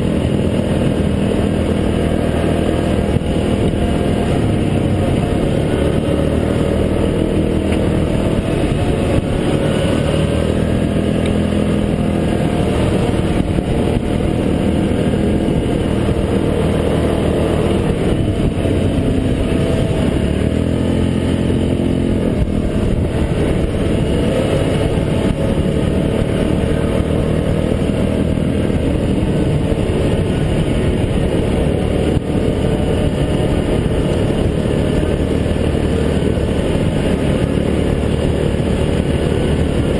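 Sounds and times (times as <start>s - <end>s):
atv engine rumbling: 0.0s - 39.9s.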